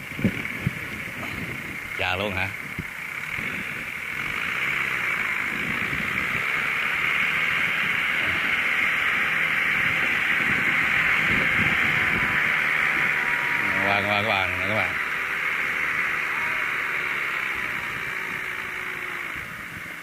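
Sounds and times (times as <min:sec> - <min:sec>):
diesel engines droning: 0:00.0 - 0:20.0.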